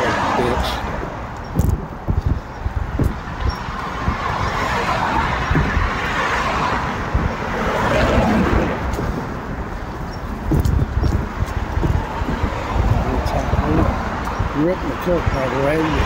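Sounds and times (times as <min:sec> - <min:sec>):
street traffic: 0:00.0 - 0:16.0
vehicle passing: 0:00.0 - 0:16.0
wind buffeting microphone: 0:00.0 - 0:16.0.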